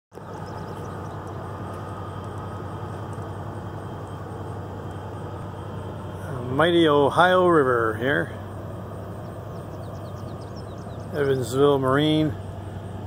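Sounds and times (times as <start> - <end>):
low machinery drone: 0.1 - 13.0.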